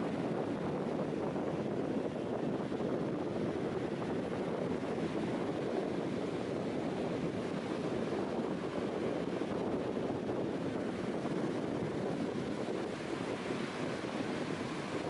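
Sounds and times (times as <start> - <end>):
ocean surf: 0.0 - 15.0
wind on microphone: 0.0 - 15.0.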